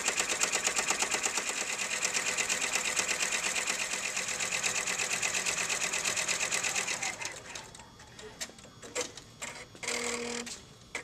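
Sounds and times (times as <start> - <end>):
embroidery machine needle strokes: 0.0 - 11.0.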